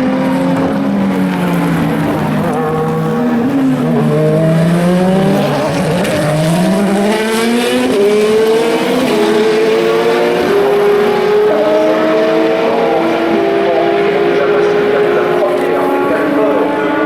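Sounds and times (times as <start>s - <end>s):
racing car engines accelerating: 0.0s - 17.0s.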